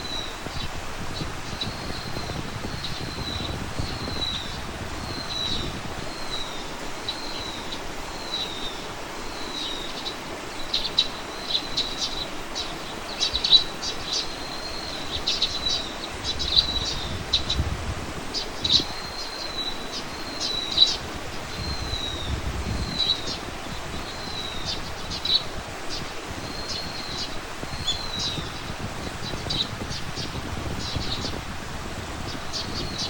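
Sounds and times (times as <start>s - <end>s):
birds chirping sharply: 0.1s - 31.6s, 32.2s - 33.0s.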